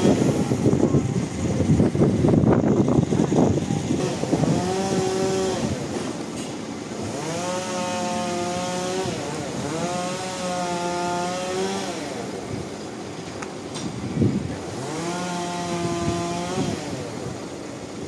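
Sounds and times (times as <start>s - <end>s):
sawmill motor whine: 0.0s - 18.0s.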